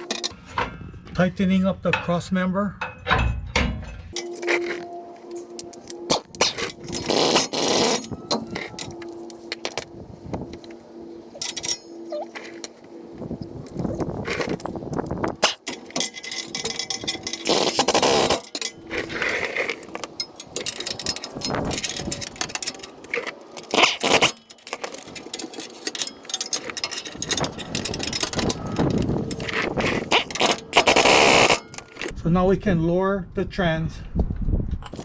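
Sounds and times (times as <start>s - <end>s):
metal tools clanking and scraping: 0.0s - 0.7s, 2.8s - 32.2s.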